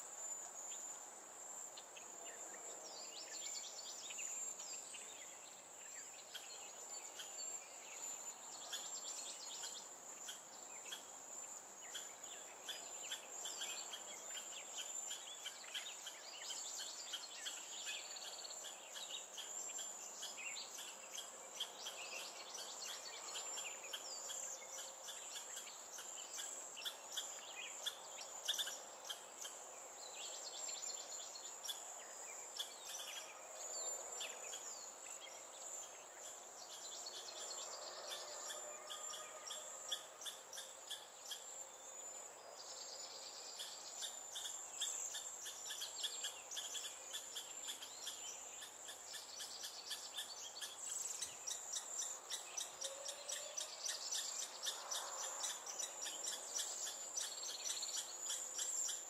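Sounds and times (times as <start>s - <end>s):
high-pitched insect trill: 0.0s - 59.0s.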